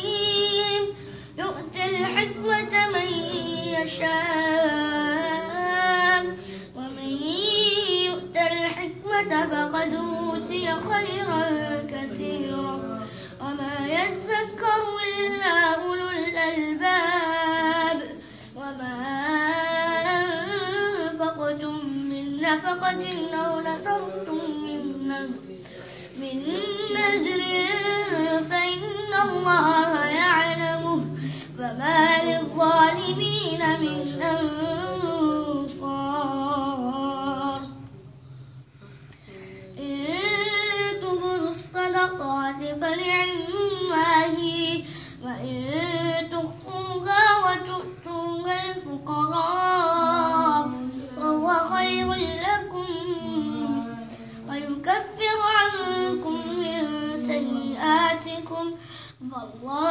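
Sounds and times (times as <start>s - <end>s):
boy reciting melodically: 0.0s - 59.9s.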